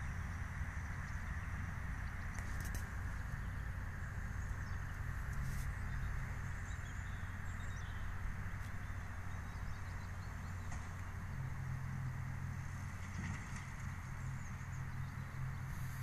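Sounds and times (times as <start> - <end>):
distant tractor and baler humming: 0.0 - 16.0.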